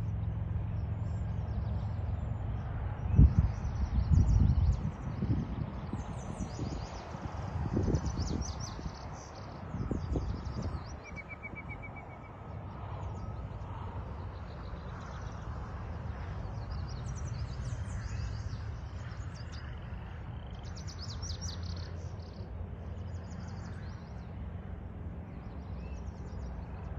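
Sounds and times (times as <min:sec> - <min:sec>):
songbirds chirping and trilling: 0:00.0 - 0:26.9
steady low rumble: 0:00.0 - 0:26.9.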